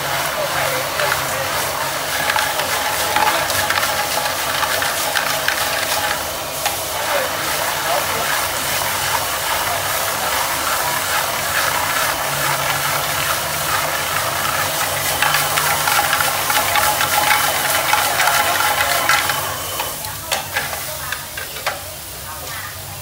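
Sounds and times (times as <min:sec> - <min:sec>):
clams sizzling in a pan: 0:00.0 - 0:23.0.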